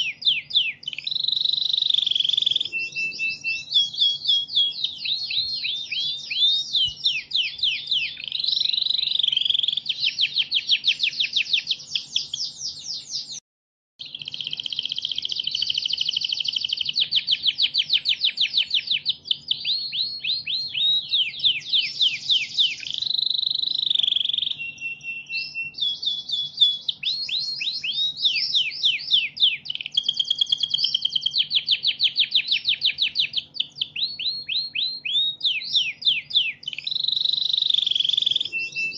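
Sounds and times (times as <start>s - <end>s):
songbird chirps and trills: 0.0s - 13.4s, 14.0s - 38.9s.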